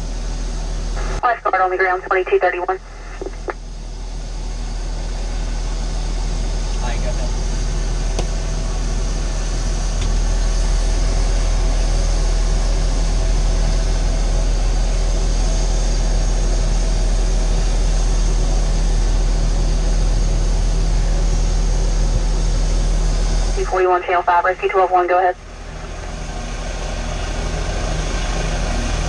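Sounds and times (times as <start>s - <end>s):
engine humming with high whine: 0.0s - 29.0s.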